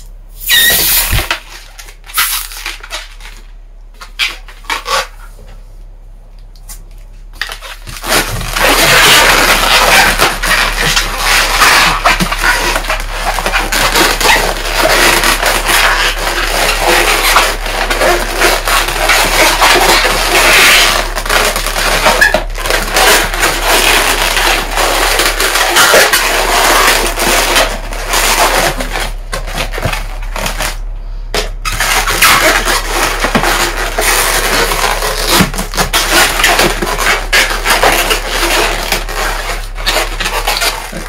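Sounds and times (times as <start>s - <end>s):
balloons rubbing and squeaking: 0.4s - 3.3s, 4.0s - 5.4s, 7.4s - 41.0s.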